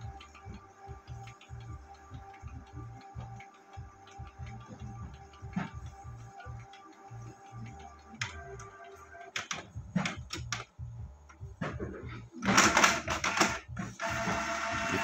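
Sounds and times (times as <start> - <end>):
inkjet printer printing: 0.0 - 10.7, 11.6 - 15.0.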